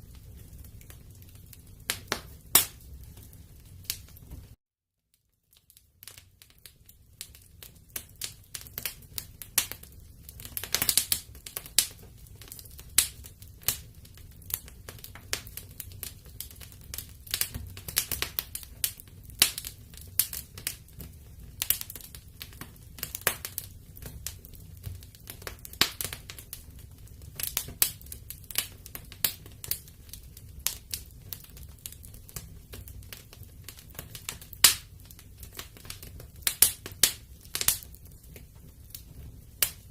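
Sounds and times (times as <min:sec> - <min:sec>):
low rumble of flames: 0:00.0 - 0:04.6, 0:05.6 - 0:39.9
wood fire crackling and popping: 0:00.0 - 0:04.6, 0:05.2 - 0:39.9.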